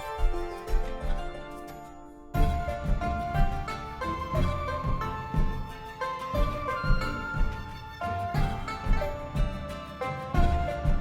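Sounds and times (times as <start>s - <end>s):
music with plucked melody: 0.0s - 11.0s.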